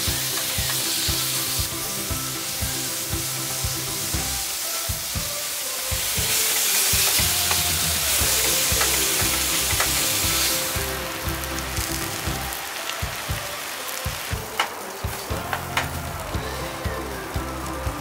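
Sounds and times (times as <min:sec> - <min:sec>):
stir-fry sizzling in a pan: 0:00.0 - 0:18.0.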